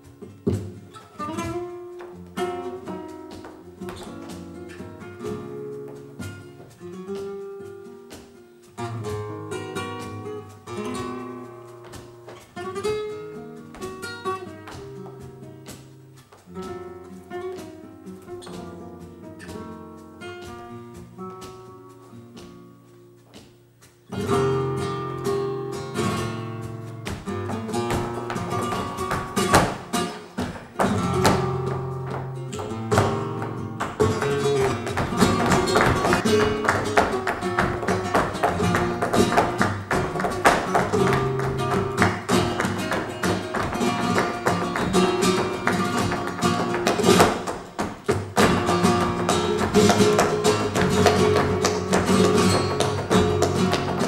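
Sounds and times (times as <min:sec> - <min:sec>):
flamenco guitar: 0:00.0 - 0:54.0.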